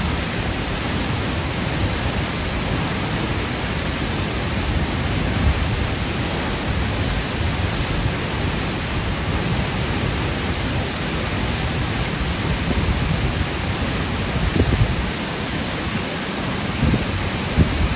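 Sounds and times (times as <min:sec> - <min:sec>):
waterfall roaring: 0:00.0 - 0:17.9.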